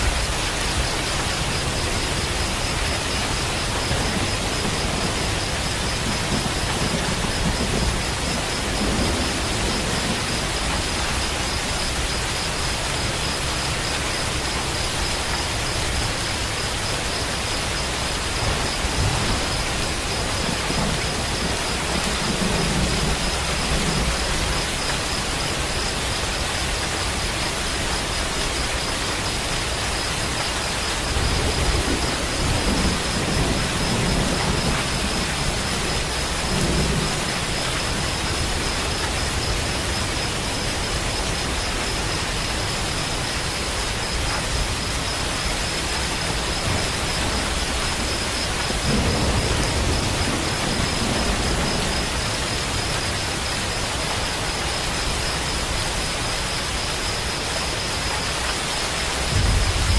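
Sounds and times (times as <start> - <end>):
distant thunder rumbling: 0.0 - 56.2, 58.8 - 59.9
heavy rain: 0.0 - 59.9.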